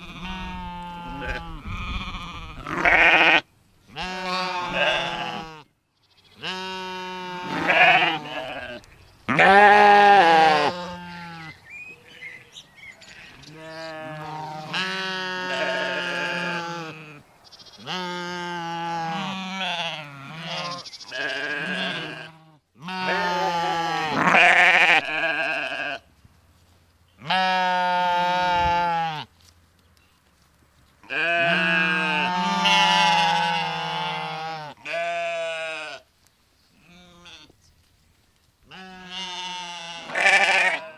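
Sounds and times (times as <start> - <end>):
sheep bleating: 0.0 - 5.7, 6.3 - 11.6, 13.0 - 26.0, 27.2 - 29.3, 31.0 - 36.1, 36.8 - 37.5, 38.7 - 40.9.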